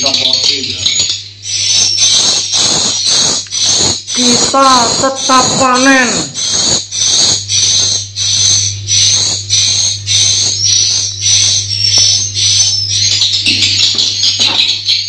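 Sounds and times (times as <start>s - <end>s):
steady low hum: 0.0s - 15.0s
swiftlets chirping: 0.0s - 15.0s.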